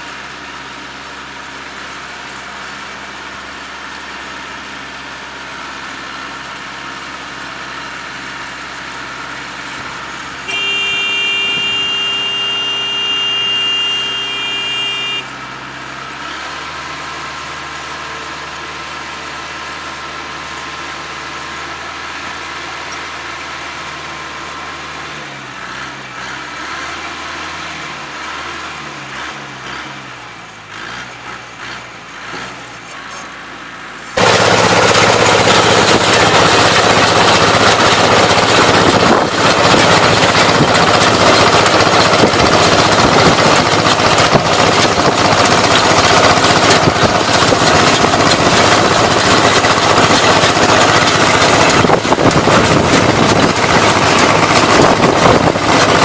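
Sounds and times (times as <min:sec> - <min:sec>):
hay baler running: 0:00.0 - 0:56.0
tractor engine running: 0:00.0 - 0:56.0.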